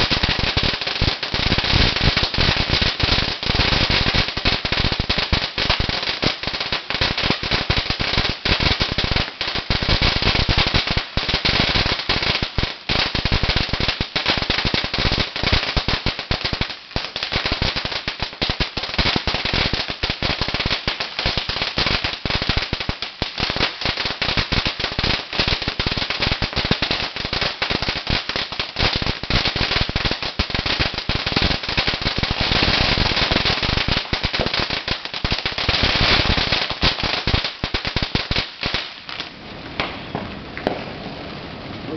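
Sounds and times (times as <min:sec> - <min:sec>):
firecrackers crackling rapidly: 0:00.0 - 0:41.9.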